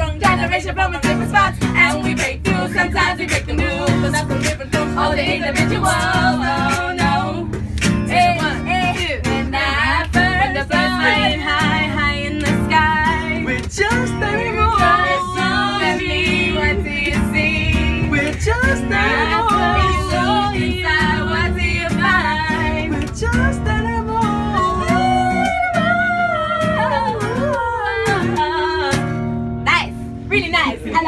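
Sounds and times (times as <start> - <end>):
voices singing together: 0.0 - 29.0
acoustic guitar strumming: 0.0 - 30.3.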